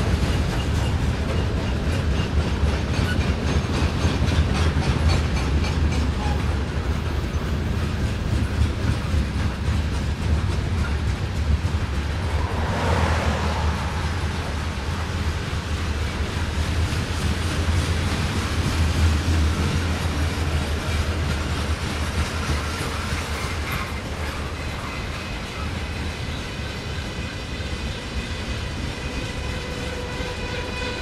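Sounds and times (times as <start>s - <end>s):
wheels clicking over rail joints: 0.0s - 13.2s, 15.1s - 28.0s
freight train rumbling: 0.0s - 31.0s.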